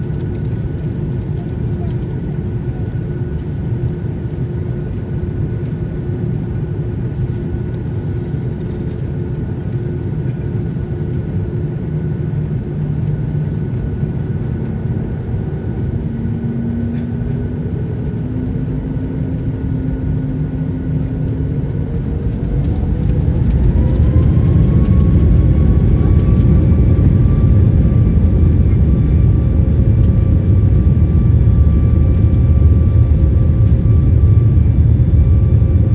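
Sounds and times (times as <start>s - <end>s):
jet engines rumbling and whining: 0.0s - 35.9s.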